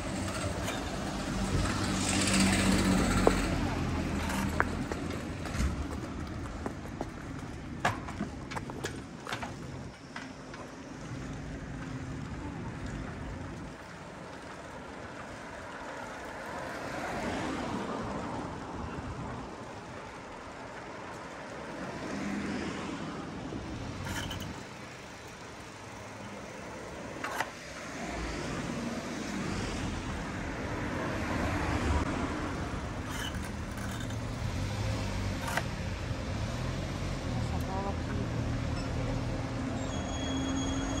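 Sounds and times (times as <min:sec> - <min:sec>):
cars passing: 0:00.0 - 0:08.9, 0:10.6 - 0:41.0.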